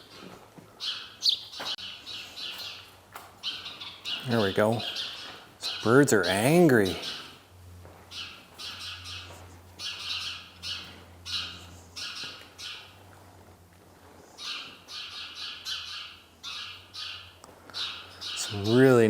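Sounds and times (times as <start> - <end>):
birds alarm calls: 0.8 - 13.0, 14.3 - 19.0.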